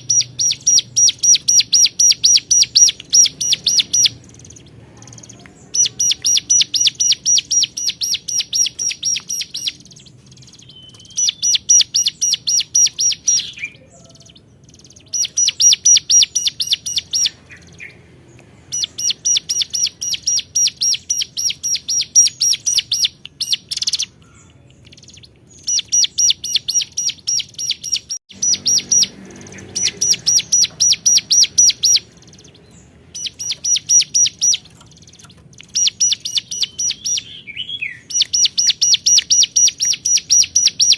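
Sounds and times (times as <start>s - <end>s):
bird singing fast high chirps: 0.0s - 40.9s.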